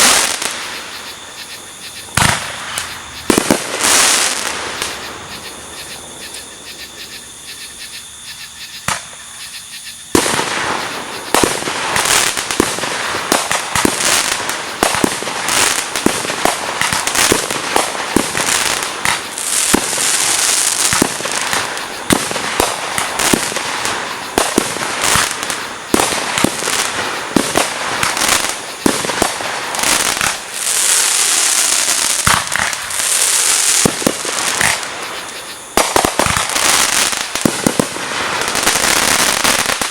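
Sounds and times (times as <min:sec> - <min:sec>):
fireworks bangs: 0:00.0 - 0:05.7, 0:08.8 - 0:09.2, 0:10.1 - 0:39.9
fireworks crackling: 0:00.0 - 0:06.7, 0:10.0 - 0:39.9.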